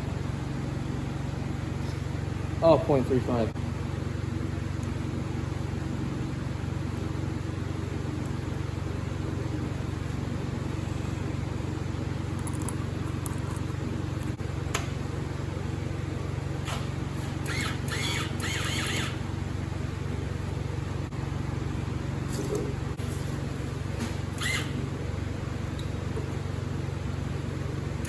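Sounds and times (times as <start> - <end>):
generator engine droning: 0.0 - 28.0.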